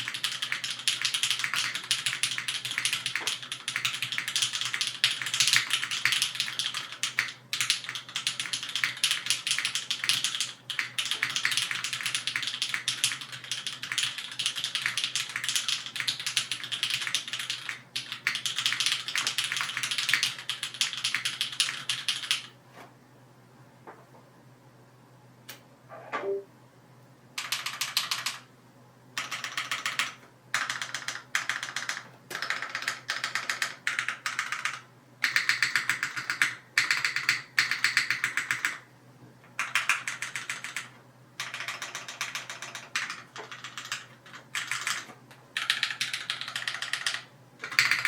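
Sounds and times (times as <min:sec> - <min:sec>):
mechanical keyboard typing: 0:00.0 - 0:22.5, 0:27.4 - 0:28.5, 0:29.2 - 0:38.8, 0:39.6 - 0:48.0.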